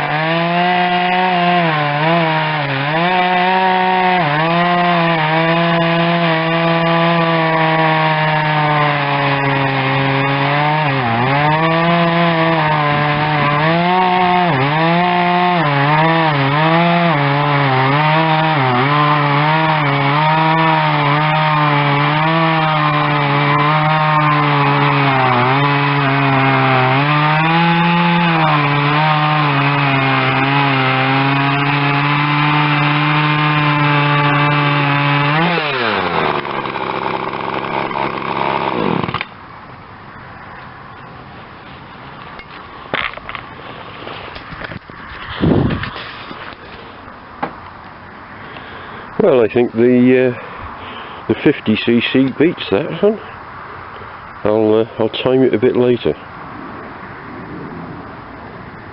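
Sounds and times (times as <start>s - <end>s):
chainsaw cutting through wood: 0.0s - 39.4s, 42.9s - 47.1s, 48.4s - 53.3s.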